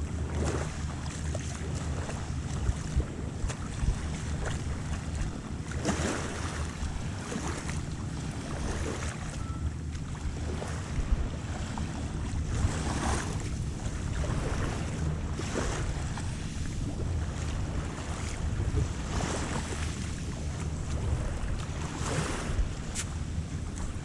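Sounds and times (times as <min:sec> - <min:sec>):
waves washing on sandy beach: 0:00.0 - 0:09.5, 0:10.1 - 0:24.0
wind rumble on microphone: 0:00.0 - 0:24.0.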